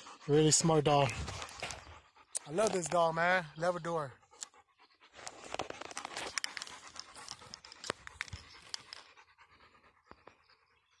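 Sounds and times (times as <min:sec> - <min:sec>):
dog panting hard: 0:00.0 - 0:11.0.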